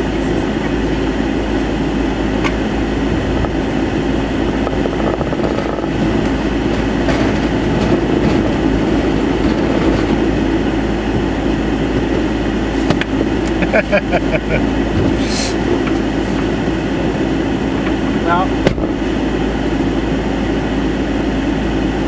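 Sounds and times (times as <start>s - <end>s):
vehicle plowing snow: 0.0s - 22.0s.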